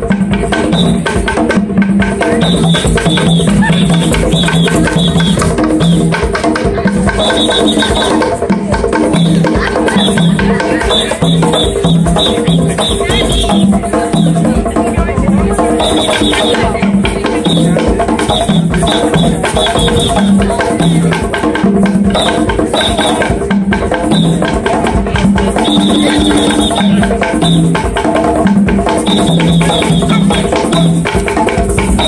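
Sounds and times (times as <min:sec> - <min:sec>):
hand drumming on wooden drums: 0:00.0 - 0:32.0.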